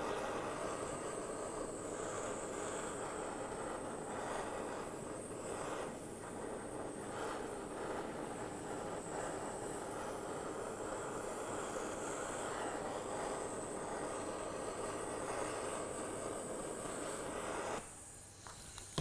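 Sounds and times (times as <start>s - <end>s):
blowtorch flame hissing: 0.0s - 19.0s.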